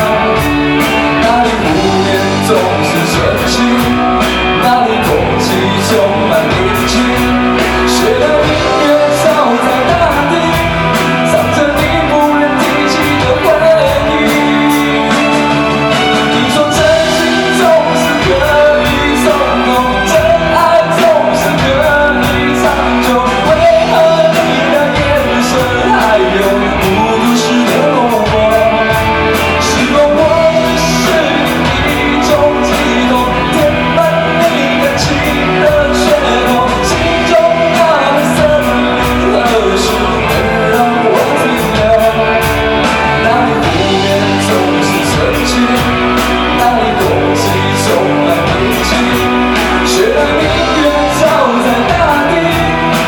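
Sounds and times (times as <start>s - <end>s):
bass guitar: 0.0s - 53.0s
drums: 0.0s - 53.0s
electric guitar: 0.0s - 53.0s
person singing lead vocals: 0.0s - 53.0s.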